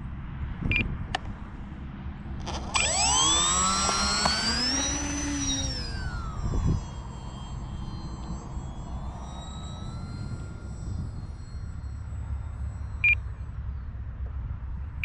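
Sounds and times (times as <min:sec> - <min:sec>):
wind rumbling on microphone: 0:00.0 - 0:13.1
electric motor and propeller whine: 0:00.1 - 0:15.0.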